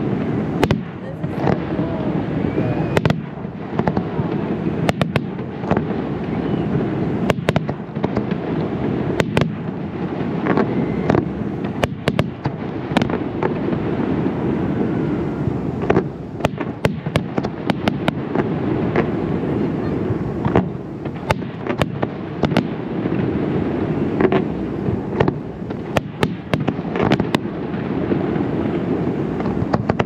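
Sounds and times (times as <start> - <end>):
firework cracks and pops: 0.0 - 30.0
rumble of firework bursts: 0.0 - 30.0.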